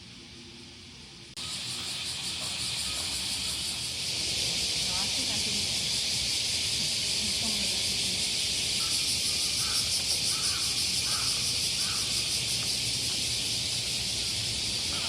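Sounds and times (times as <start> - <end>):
cicadas chorus: 0.0 - 15.0.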